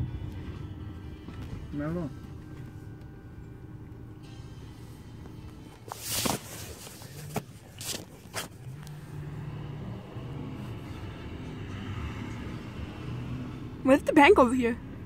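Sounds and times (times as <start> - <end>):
engine and road noise hum: 0.0 - 15.0.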